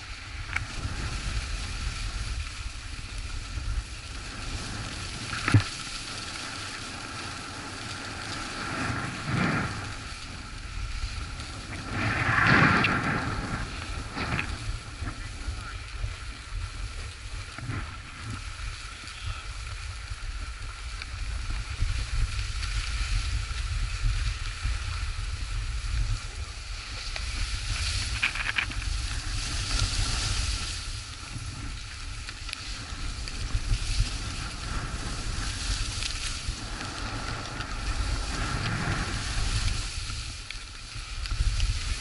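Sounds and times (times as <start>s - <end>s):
skis scraping on snow: 0.0s - 42.0s
wind on microphone: 0.0s - 42.0s.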